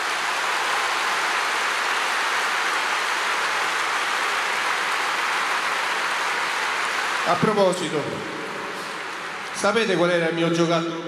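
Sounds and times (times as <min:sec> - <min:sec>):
large crowd applauding: 0:00.0 - 0:10.7.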